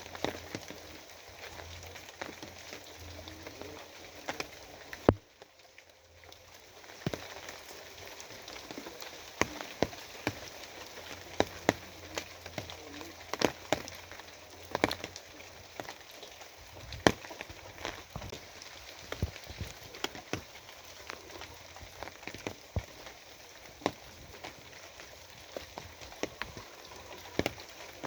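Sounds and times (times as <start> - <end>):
heavy raindrops tapping: 0.0 - 28.0
steady rain: 0.0 - 28.0.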